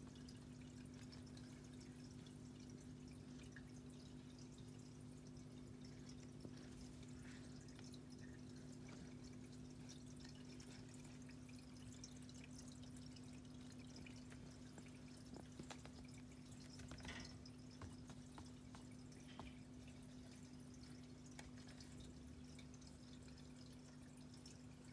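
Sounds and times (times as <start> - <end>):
faint ticks and taps: 0.0 - 24.6
low electrical hum: 0.0 - 24.9.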